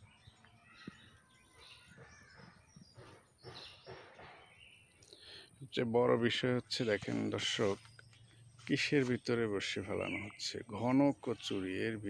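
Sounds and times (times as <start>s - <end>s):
faint bird chirps: 0.0s - 11.9s.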